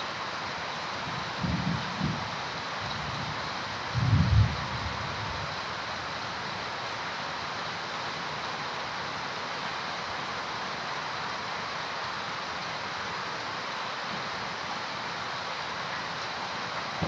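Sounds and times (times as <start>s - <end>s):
heavy rain on foliage: 0.0s - 17.0s.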